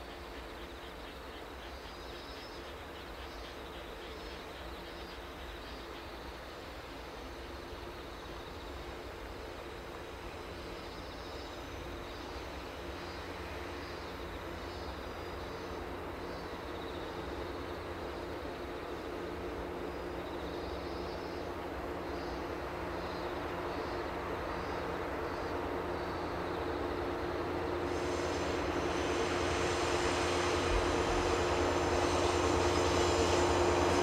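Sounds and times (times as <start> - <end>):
diesel locomotive engine: 0.0 - 34.0.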